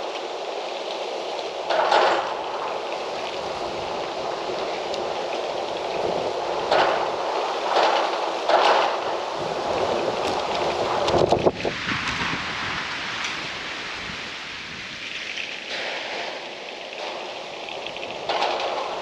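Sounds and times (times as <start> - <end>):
wind blowing in gusts: 0.0 - 19.0.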